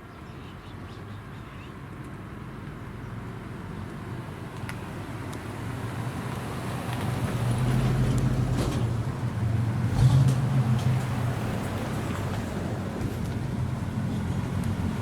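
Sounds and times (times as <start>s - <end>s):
car engine rumbling: 2.9s - 15.0s.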